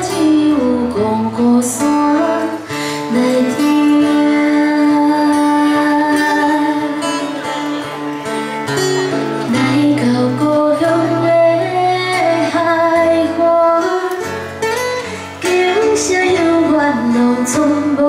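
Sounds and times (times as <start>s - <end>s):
plucked acoustic guitar: 0.0s - 18.0s.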